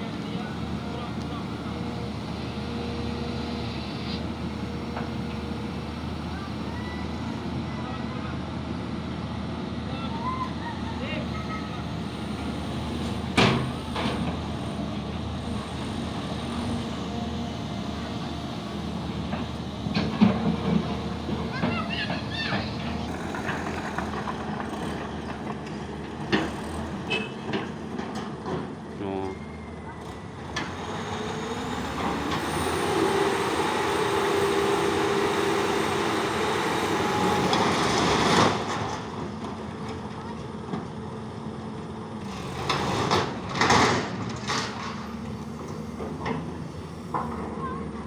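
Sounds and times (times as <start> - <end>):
heavy diesel machinery running: 0.0 - 48.0.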